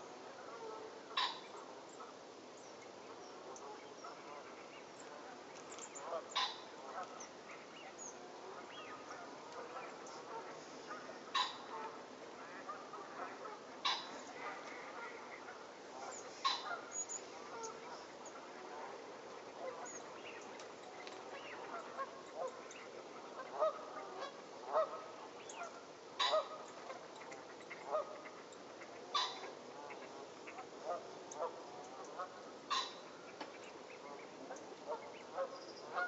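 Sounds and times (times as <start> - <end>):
geese honking: 0.0 - 2.2, 3.4 - 36.0.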